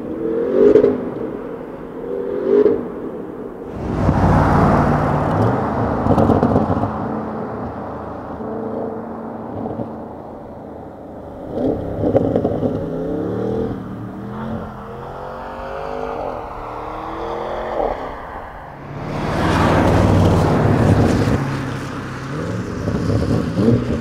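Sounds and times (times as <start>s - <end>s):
car exhaust revving: 3.7s - 24.0s.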